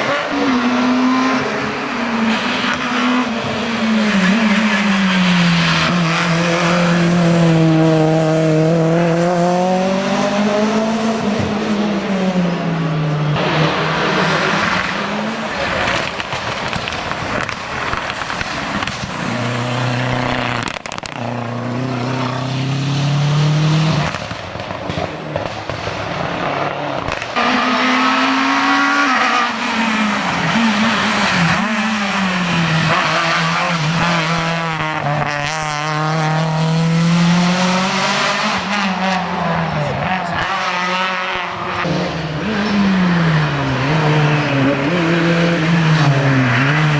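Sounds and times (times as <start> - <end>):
rally cars revving past: 0.0 - 46.9.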